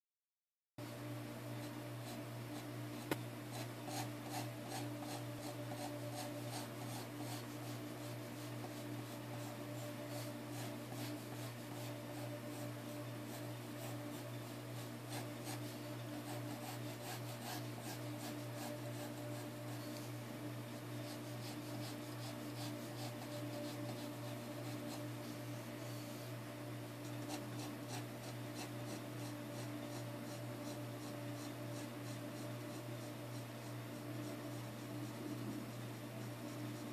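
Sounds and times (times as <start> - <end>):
steady low hum: 0.8 - 36.9
pencil scratching on paper: 1.5 - 20.1, 20.7 - 26.4, 27.0 - 36.9.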